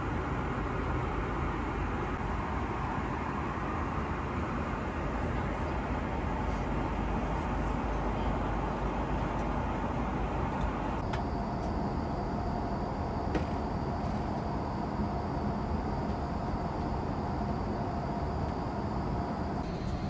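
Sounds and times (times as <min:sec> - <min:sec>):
airliner cabin rumble: 0:00.4 - 0:20.0.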